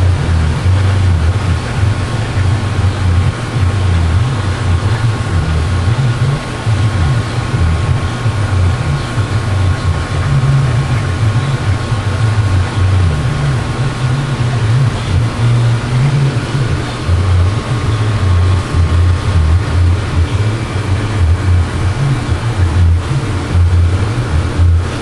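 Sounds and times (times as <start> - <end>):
loud uneven low rumble: 0.0 - 25.0
steady hum: 0.0 - 25.0.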